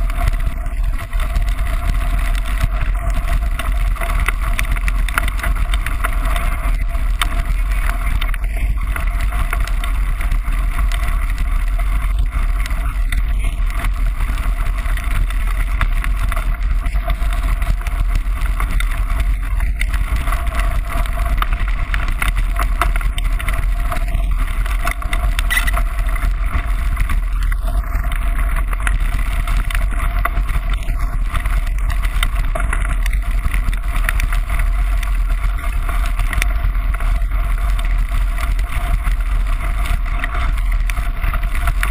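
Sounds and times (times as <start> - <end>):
bike tyres rumbling on gravel: 0.0 - 41.9.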